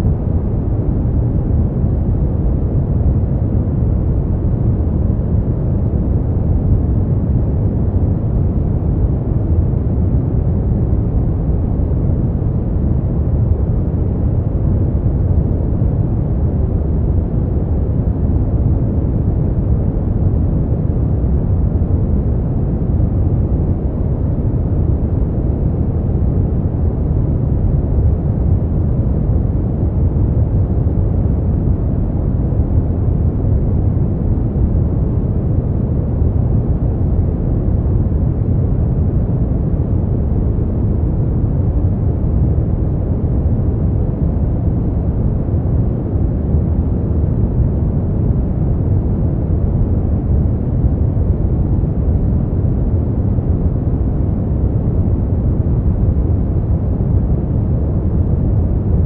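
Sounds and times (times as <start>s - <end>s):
steady deep rushing noise: 0.0s - 59.0s.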